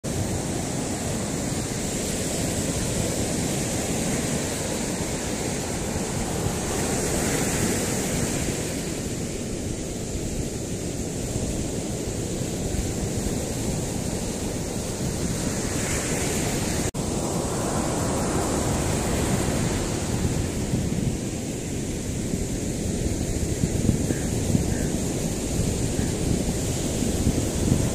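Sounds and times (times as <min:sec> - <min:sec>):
ocean surf breaking on beach: 0:00.0 - 0:27.9
wind buffeting microphone: 0:00.0 - 0:27.9.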